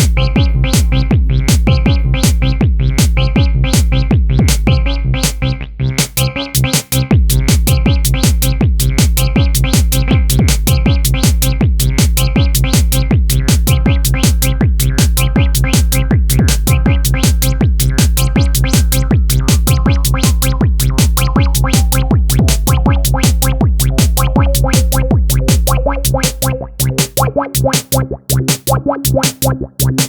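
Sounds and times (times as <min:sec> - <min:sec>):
deep synth bass line: 0:00.0 - 0:30.0
drum machine beat: 0:00.0 - 0:30.0
short repeating synth notes: 0:00.0 - 0:30.0.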